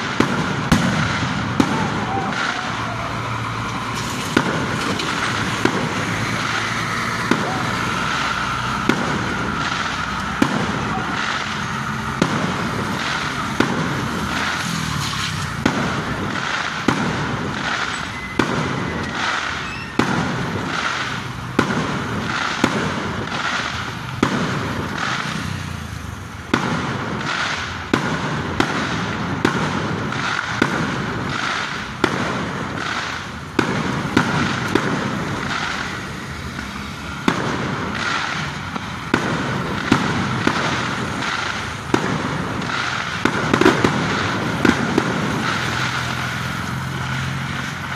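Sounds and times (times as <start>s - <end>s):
fireworks bangs: 0.0s - 47.9s
fireworks crackling: 0.0s - 47.9s.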